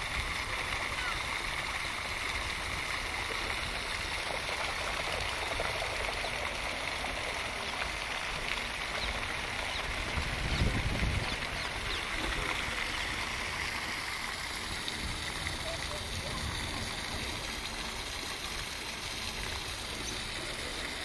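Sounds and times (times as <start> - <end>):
fountain water falling: 0.0 - 21.0.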